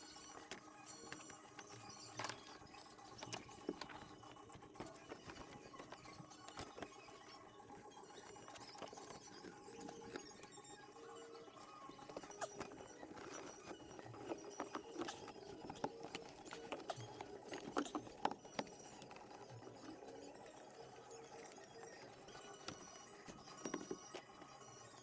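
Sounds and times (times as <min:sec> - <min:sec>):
faint clicks and taps: 0:00.0 - 0:25.0.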